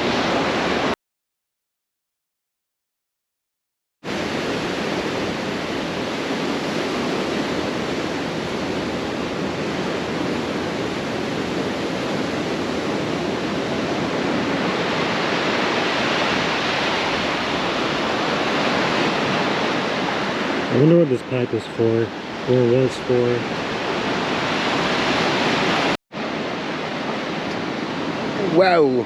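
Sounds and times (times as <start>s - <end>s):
ocean surf on beach: 0.0s - 1.0s, 4.0s - 29.0s.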